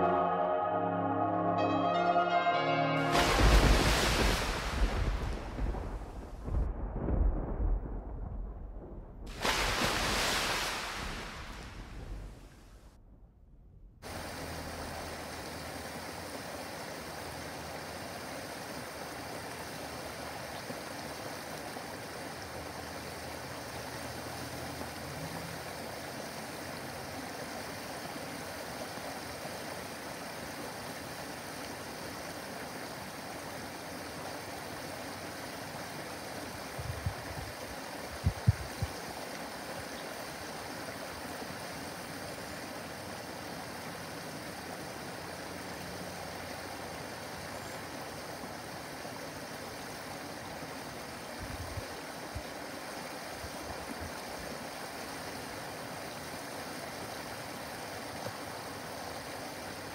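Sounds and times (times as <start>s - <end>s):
waterfall splashing into pond: 3.1s - 8.4s, 9.2s - 12.4s, 14.0s - 59.9s.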